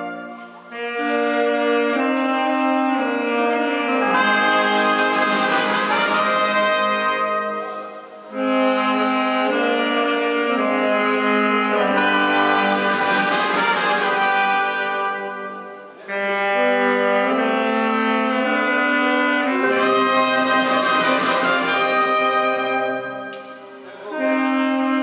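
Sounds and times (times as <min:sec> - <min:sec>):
brass band playing held chords: 0:00.0 - 0:25.0.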